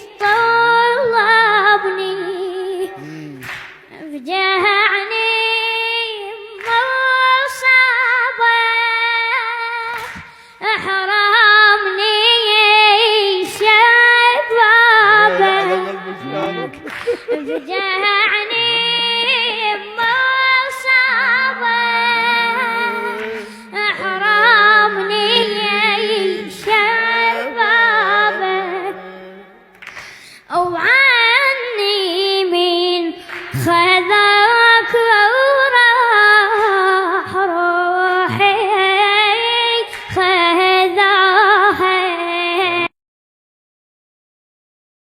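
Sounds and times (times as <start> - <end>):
woman singing a lament: 0.0 - 29.7, 30.4 - 42.9.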